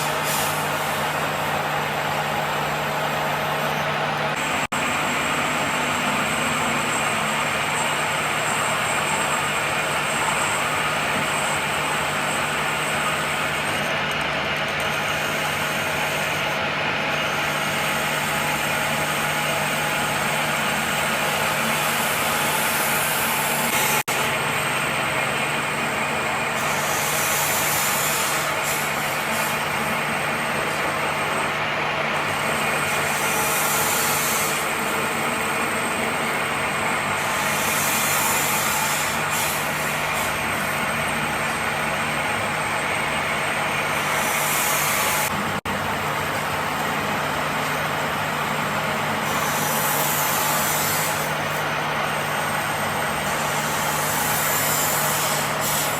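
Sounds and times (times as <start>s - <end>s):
workshop machine humming: 0.0s - 55.9s.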